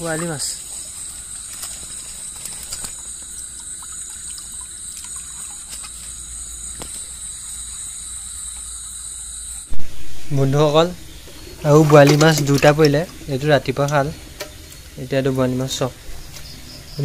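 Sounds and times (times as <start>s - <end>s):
night insects chirring: 0.0s - 17.0s
water splashing and dribbling: 0.0s - 17.0s.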